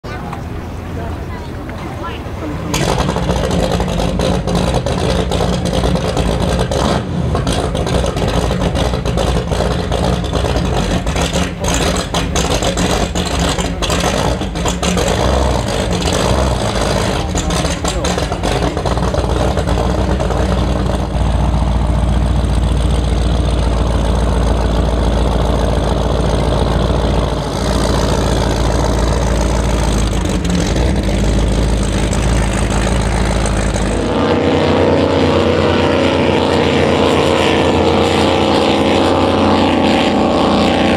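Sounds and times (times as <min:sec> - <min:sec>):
powerboat engines idling: 0:00.0 - 0:40.9.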